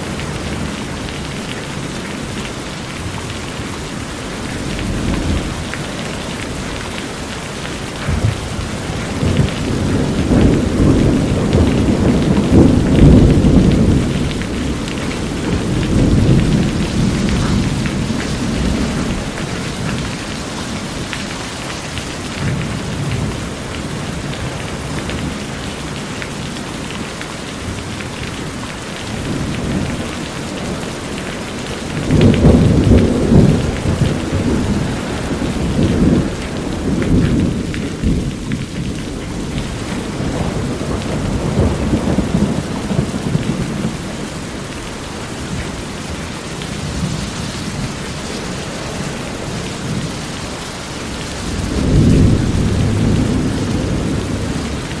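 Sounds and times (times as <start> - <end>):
rain on a metal roof: 0.0 - 55.0
thunder rumbling: 3.2 - 25.7, 29.1 - 55.0.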